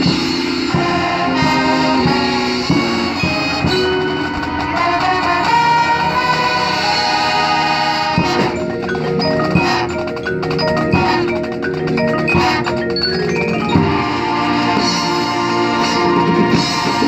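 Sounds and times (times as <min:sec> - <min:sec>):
mallet percussion: 0:00.0 - 0:17.0
marching band playing: 0:00.0 - 0:17.0.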